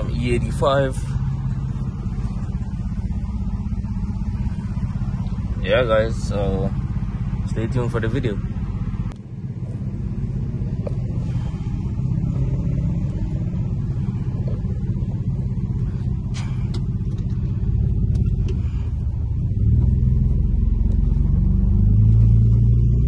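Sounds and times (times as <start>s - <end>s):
car engine and exhaust: 0.0s - 23.0s.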